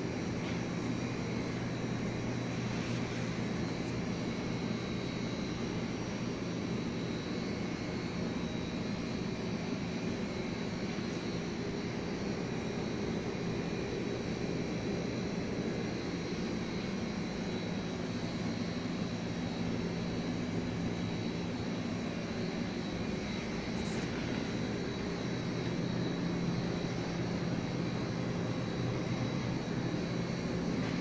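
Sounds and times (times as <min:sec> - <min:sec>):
mechanical drone with high whine: 0:00.0 - 0:31.0.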